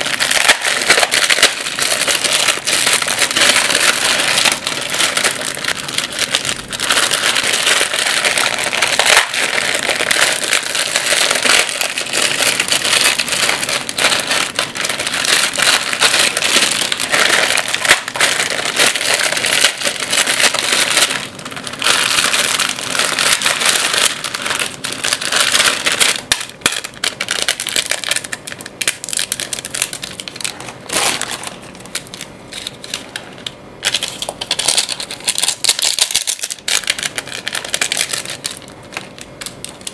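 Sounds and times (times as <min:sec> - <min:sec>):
plastic packets crinkling: 0:00.0 - 0:39.9.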